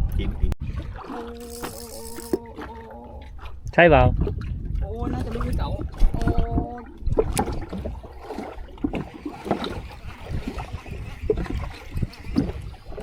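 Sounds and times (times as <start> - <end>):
water slapping against boat hull: 2.4 - 13.0.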